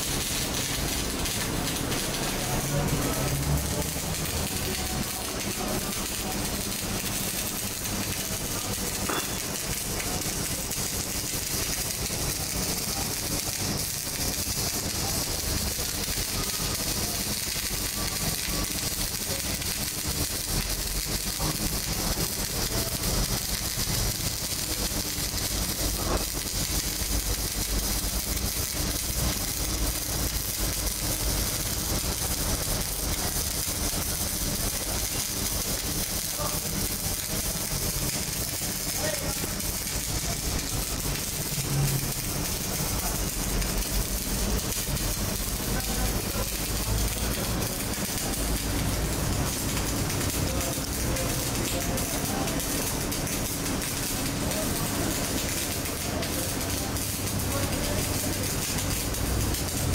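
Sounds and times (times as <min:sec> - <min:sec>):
welding arc crackling: 0:00.0 - 0:59.9.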